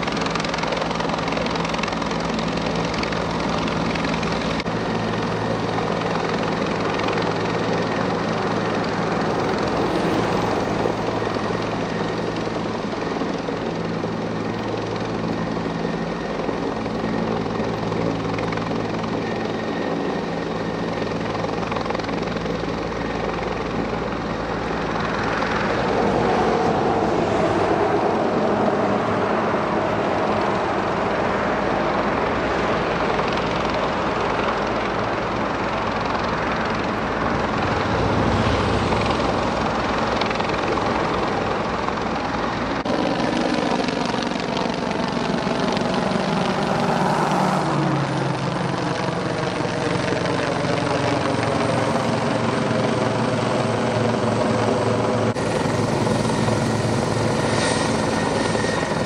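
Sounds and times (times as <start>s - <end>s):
helicopter running overhead: 0.0s - 59.0s.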